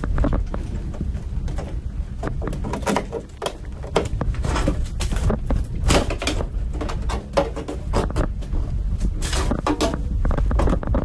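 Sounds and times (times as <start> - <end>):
steady low rumble: 0.0 - 2.8, 3.4 - 11.0.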